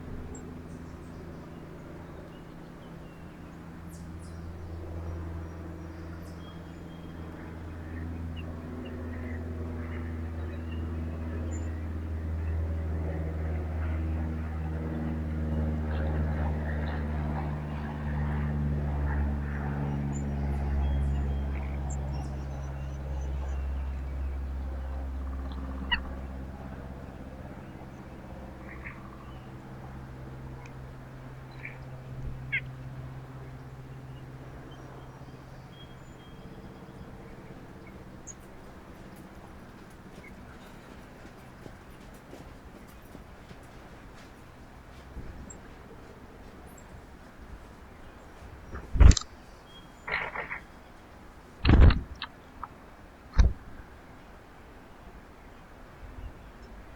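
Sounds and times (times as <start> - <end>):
engine droning: 0.0 - 56.9
steady low hum: 0.0 - 56.9.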